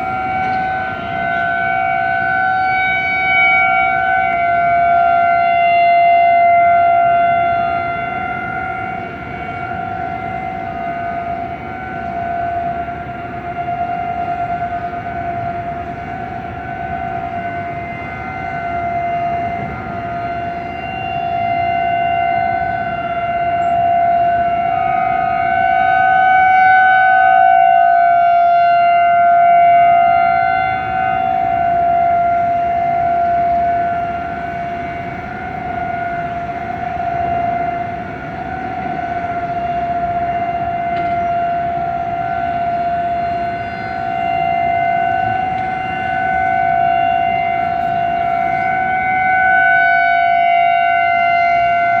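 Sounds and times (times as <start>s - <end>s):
warning sirens steady tone: 0.0s - 52.0s.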